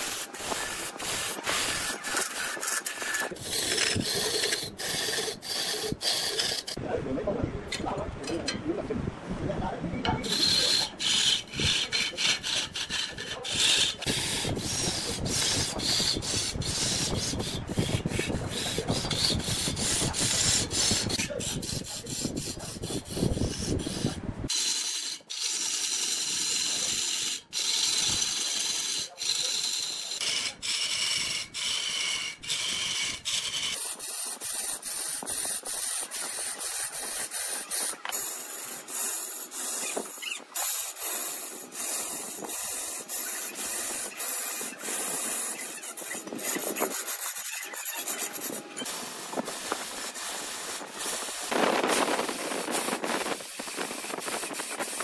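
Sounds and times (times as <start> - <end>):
lathe tool scraping spinning wood: 0.0 - 6.8, 10.1 - 55.0.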